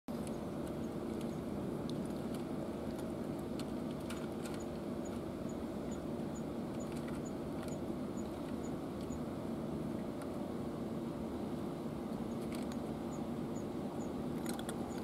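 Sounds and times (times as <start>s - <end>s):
low engine-like drone: 0.1s - 15.0s.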